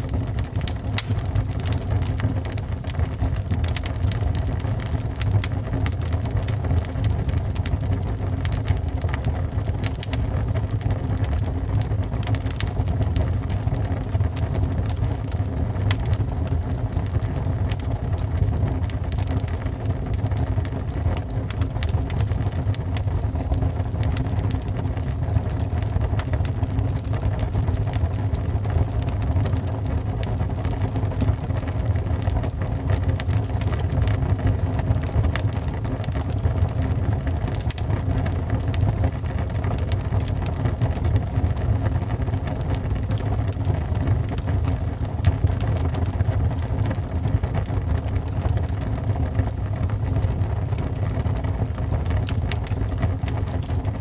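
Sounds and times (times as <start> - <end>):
fire flames rumbling: 0.0 - 54.0
logs crackling and popping: 0.0 - 54.0.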